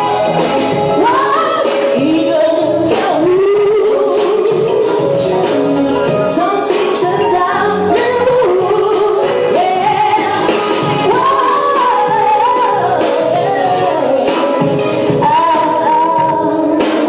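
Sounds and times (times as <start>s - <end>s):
backing music: 0.0s - 17.0s
woman singing: 0.0s - 17.0s.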